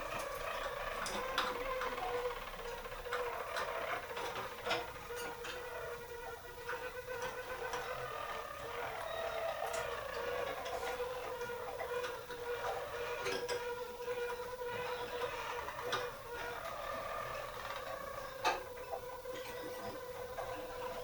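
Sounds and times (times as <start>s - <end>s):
canary singing rolling song: 0.0s - 21.0s.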